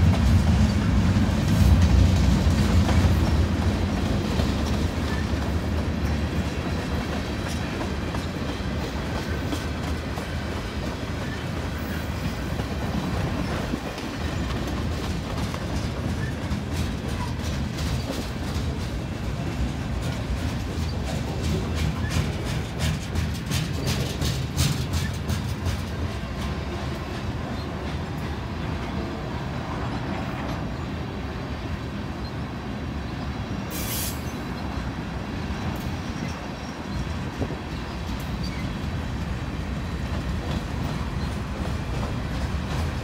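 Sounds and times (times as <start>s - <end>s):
wheels clicking over rail joints: 0.0s - 29.1s, 35.6s - 43.0s
train wheels rumbling on rail: 0.0s - 43.0s.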